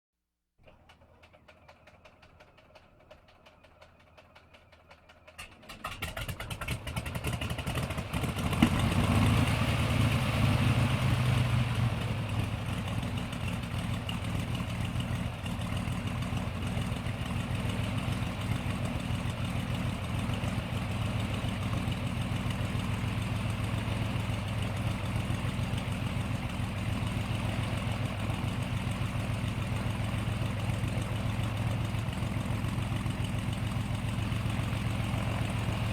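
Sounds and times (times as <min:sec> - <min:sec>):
propeller plane engine: 0:00.6 - 0:35.9.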